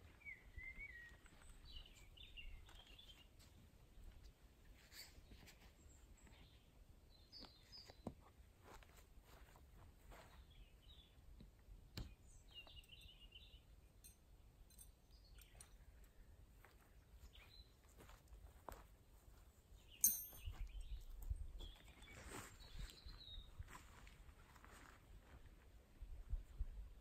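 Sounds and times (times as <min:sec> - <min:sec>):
small birds chirping: 0:00.0 - 0:08.4, 0:10.1 - 0:24.2.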